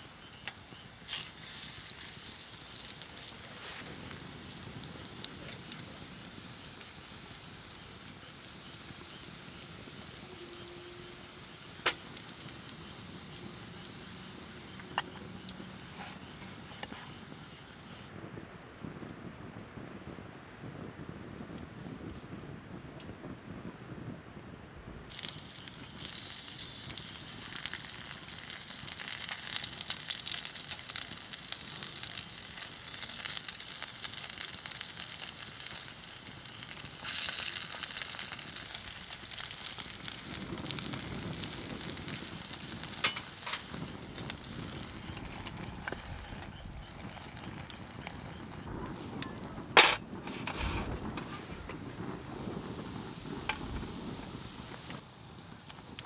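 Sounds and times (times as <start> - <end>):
food deep-frying in oil: 0.0 - 19.8, 25.1 - 56.0
fire crackling: 0.0 - 56.0.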